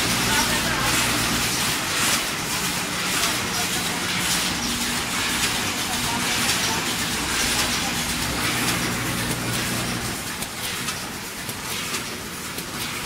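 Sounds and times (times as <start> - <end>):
faint regular machine clicks: 0.0 - 13.0
packing machine hiss and hum: 0.0 - 13.0.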